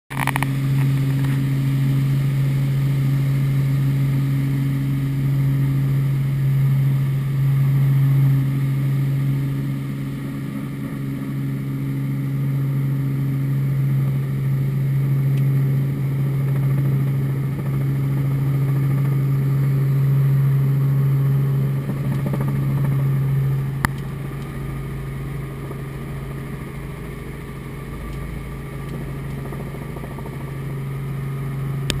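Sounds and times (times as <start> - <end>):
helicopter engine and rotors drone: 0.1 - 32.0.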